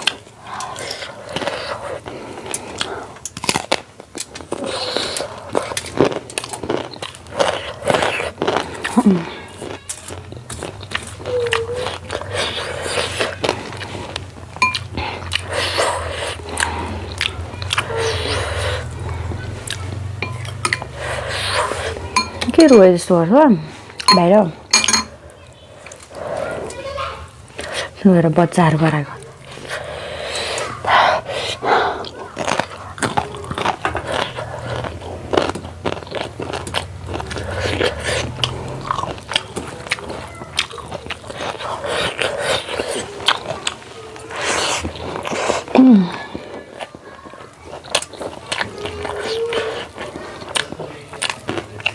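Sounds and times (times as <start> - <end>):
person chewing: 0.0 - 28.0, 28.7 - 51.9
food crunching: 0.0 - 51.9.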